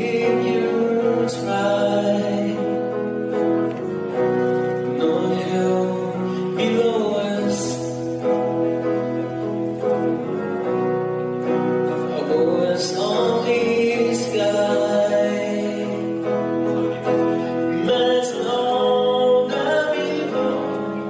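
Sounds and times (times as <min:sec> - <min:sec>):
man singing into a microphone: 0:00.0 - 0:09.0, 0:11.9 - 0:21.0
clean electric guitar strumming: 0:00.0 - 0:21.0.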